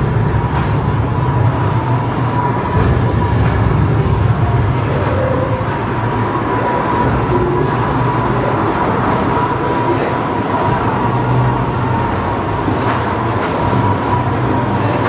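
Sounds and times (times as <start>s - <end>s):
ride car rumbling on track: 0.0s - 15.0s.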